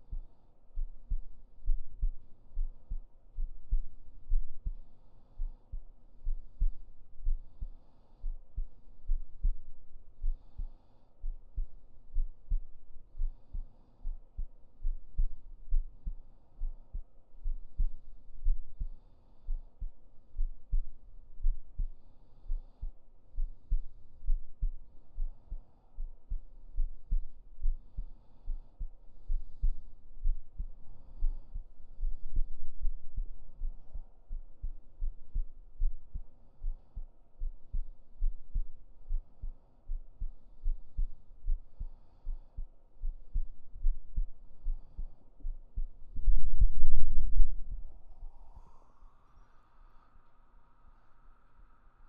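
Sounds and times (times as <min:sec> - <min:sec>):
heartbeat thumps: 0:00.0 - 0:48.1.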